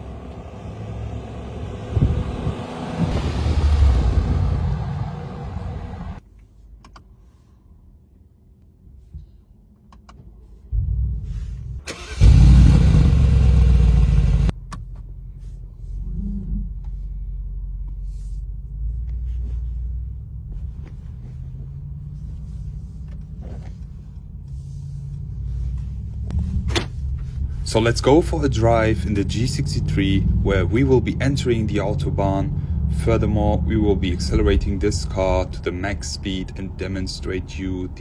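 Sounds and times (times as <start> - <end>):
car engine revving and idling: 0.0 - 6.2, 10.8 - 38.0.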